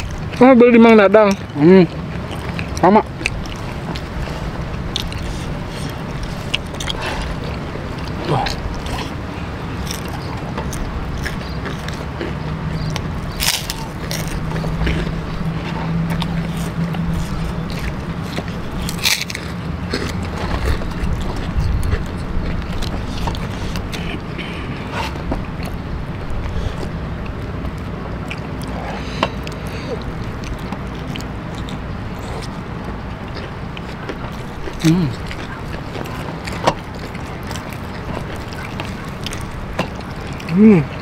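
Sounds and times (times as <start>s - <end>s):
chewing crispy crackers: 0.0s - 41.0s.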